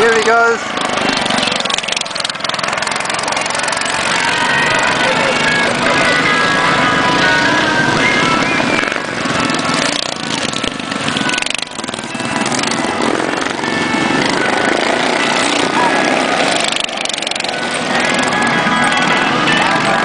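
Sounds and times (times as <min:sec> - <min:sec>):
racing kart engines: 0:00.0 - 0:20.0.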